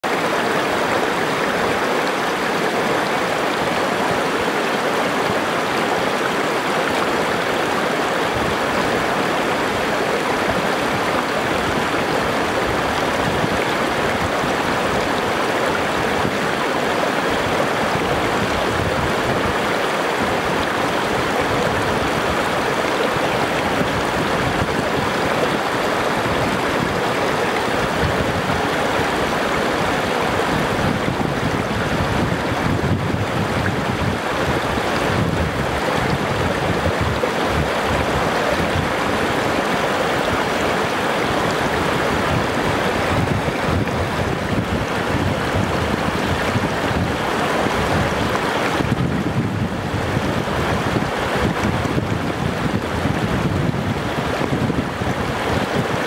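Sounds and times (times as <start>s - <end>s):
stream rushing over rocks: 0.0s - 56.0s
wind buffeting microphone: 6.9s - 56.0s.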